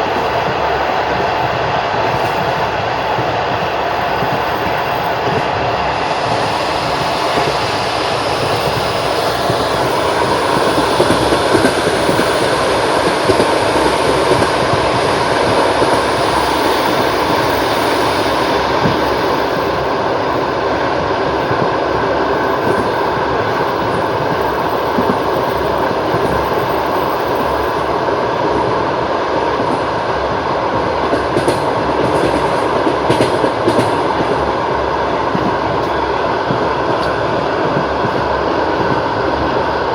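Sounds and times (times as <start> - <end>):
train wheels knocking on rails: 0.0 - 28.8, 29.5 - 39.9.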